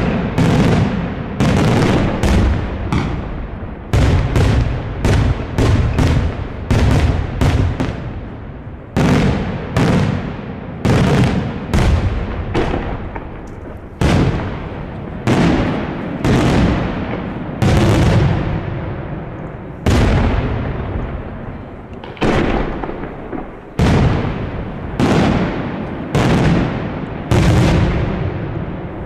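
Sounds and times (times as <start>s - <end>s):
firework shells booming: 0.0s - 29.0s.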